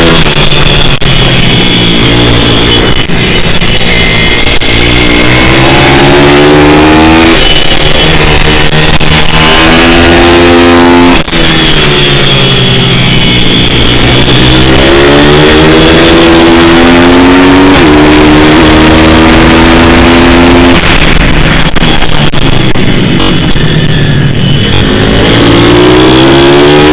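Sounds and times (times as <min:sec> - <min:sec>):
pit bike engine revving: 0:00.0 - 0:21.6, 0:24.6 - 0:26.9.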